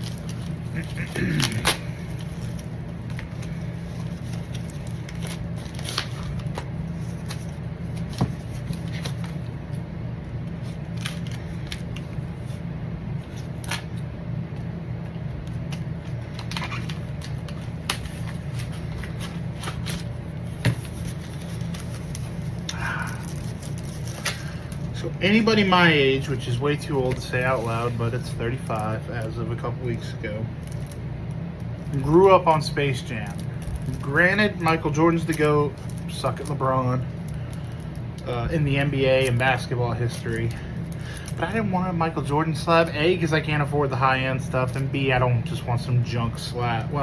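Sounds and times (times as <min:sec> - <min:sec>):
card packaging rustling: 0:00.0 - 0:09.8, 0:10.4 - 0:12.6, 0:13.2 - 0:43.7
steady low hum: 0:00.0 - 0:47.0.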